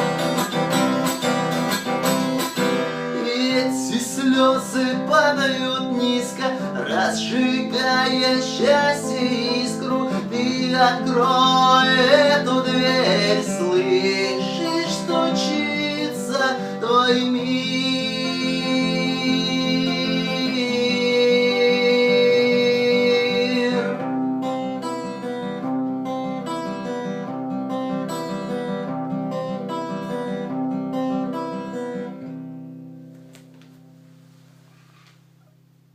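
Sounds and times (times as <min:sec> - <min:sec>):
acoustic guitar strumming: 0:00.0 - 0:35.7.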